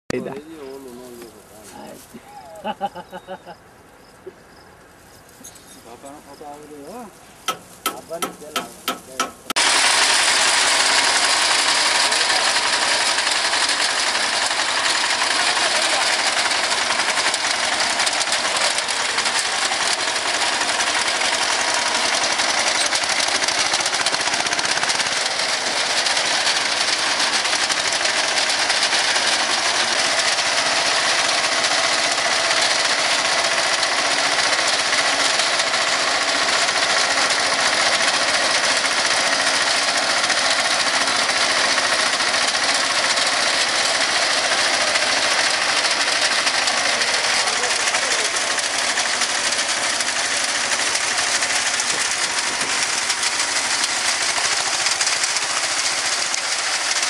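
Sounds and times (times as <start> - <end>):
tractor engine running: 4.8 - 57.0
mounted reaper working: 5.4 - 57.0.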